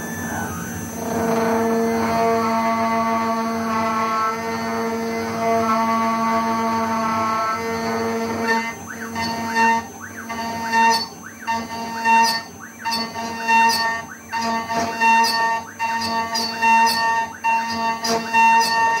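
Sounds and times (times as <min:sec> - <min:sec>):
router spindle whining while cutting metal: 0:00.0 - 0:19.0.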